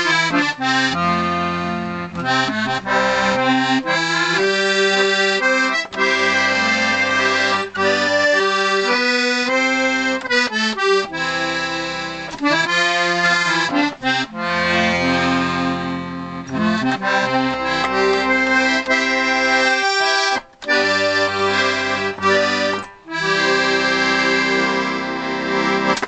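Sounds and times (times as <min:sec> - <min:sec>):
accordion playing a tune: 0:00.0 - 0:26.0.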